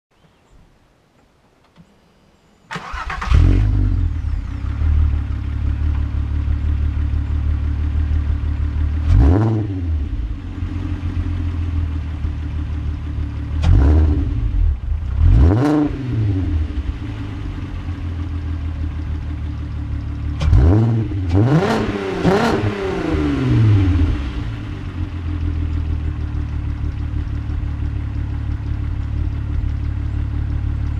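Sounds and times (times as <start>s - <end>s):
engine throttle blips: 2.7s - 30.9s
car engine idling: 2.8s - 15.5s, 16.2s - 30.9s.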